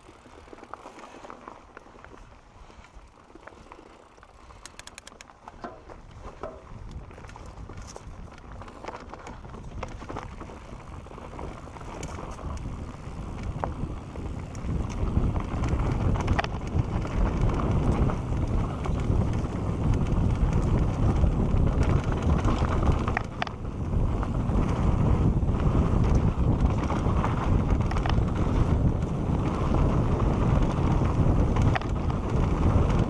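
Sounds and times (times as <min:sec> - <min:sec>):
bike clicks and rattles: 0:00.0 - 0:33.0
bike tyre rumble: 0:00.0 - 0:33.0
wind buffeting microphone: 0:04.3 - 0:33.0.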